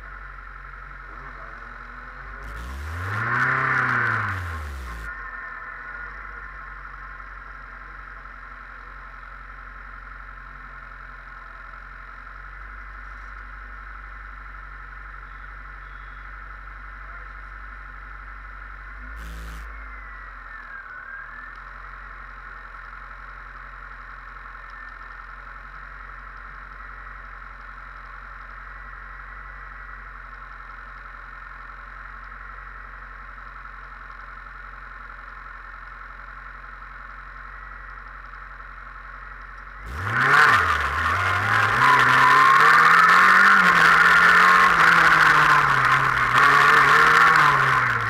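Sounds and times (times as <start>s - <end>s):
race car engine idling and revving: 0.0s - 48.0s.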